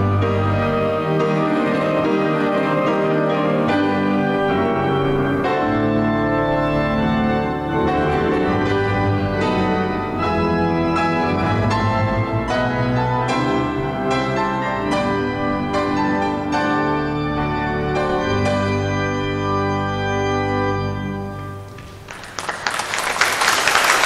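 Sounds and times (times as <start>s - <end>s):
organ chords: 0.0s - 22.4s.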